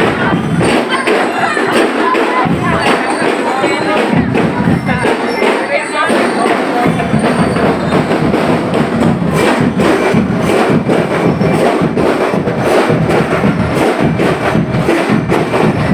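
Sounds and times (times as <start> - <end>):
parade music with drums: 0.0 - 15.9
sharp percussion clicks: 0.0 - 15.9.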